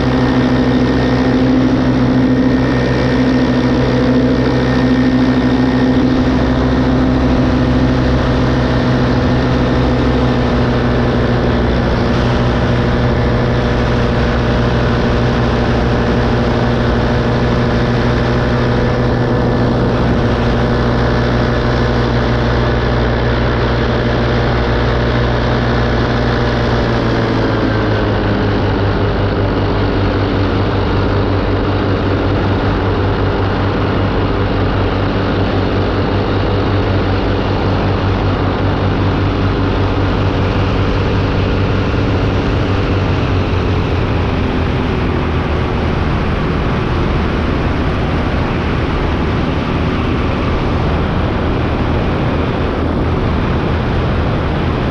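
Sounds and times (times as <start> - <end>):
paramotor engine and propeller: 0.0 - 54.9.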